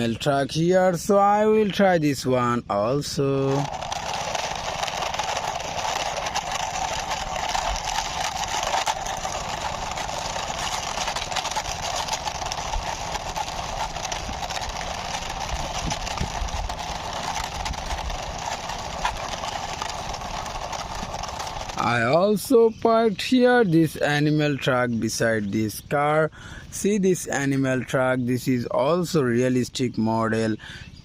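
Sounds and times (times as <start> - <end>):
toy truck wheels clicking: 0.0 - 30.6.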